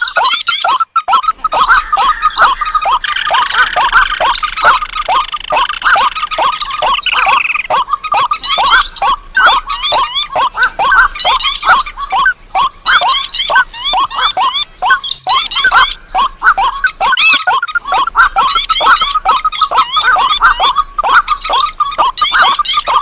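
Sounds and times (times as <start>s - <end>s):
downward-sliding bird calls: 0.0s - 23.0s
higher looping bird notes: 0.0s - 23.0s
rapid chattering bird call: 0.0s - 23.0s.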